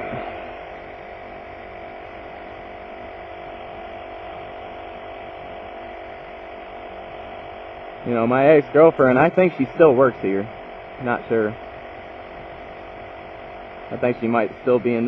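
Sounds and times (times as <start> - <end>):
small machine whirring hum: 0.0 - 15.0.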